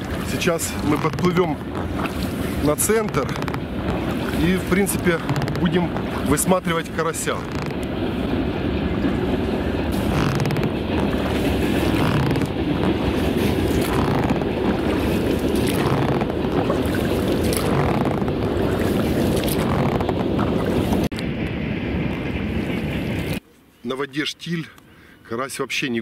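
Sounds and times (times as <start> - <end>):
wind noise on microphone: 0.0 - 23.4.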